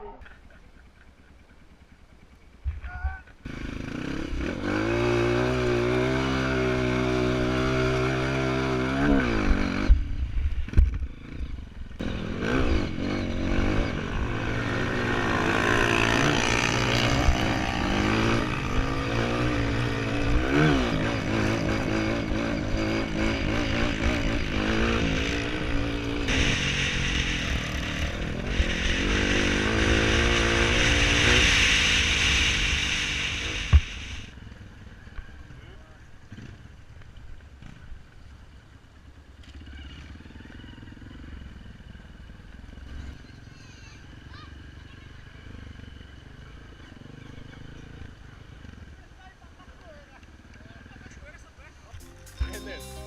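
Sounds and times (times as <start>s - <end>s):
motorcycle engine revving: 3.4s - 38.7s, 39.4s - 49.6s.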